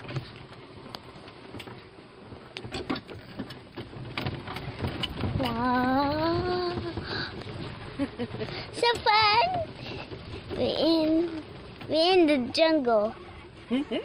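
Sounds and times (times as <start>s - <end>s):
golf cart rattling over bumps: 0.0s - 14.0s.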